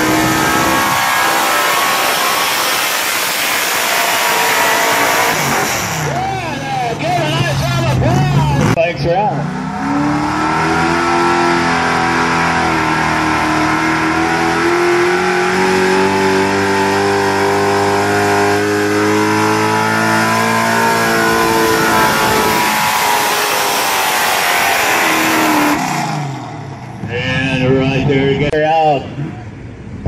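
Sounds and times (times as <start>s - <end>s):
truck engine at high revs: 0.0s - 28.2s.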